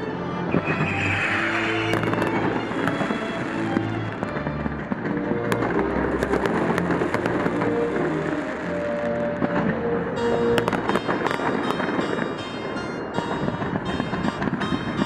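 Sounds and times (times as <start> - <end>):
music with held notes: 0.0 - 0.8, 1.9 - 15.0
fireworks crackling: 0.4 - 15.0
sharp firework cracks: 0.5 - 15.0.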